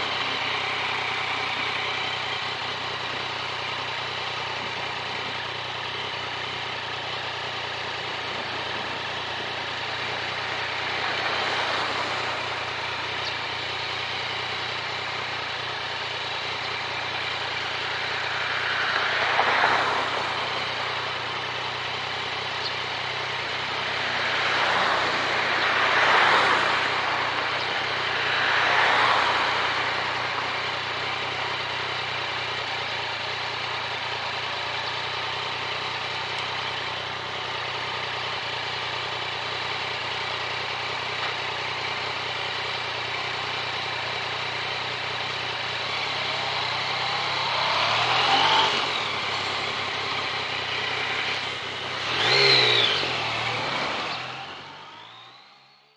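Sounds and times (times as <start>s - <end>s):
motorcycle engine running: 0.0s - 55.9s
road noise: 0.0s - 55.9s.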